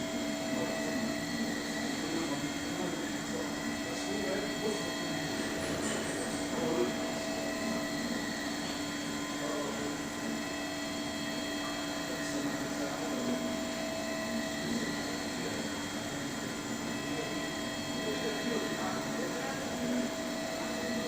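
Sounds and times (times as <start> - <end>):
printer mechanical hum: 0.0 - 21.0.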